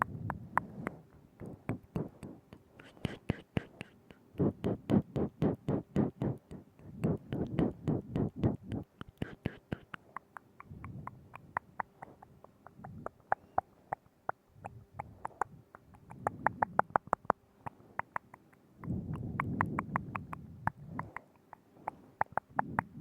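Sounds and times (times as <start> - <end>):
tongue and lip clicks: 0.0 - 23.0.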